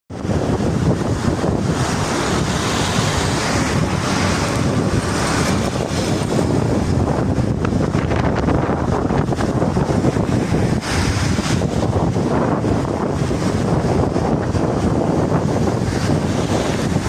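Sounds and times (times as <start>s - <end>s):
rushing floodwater: 0.1s - 17.0s.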